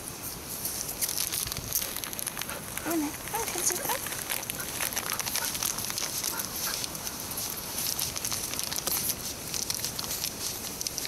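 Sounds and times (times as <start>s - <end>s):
footsteps crunching on asphalt: 1.2s - 10.8s.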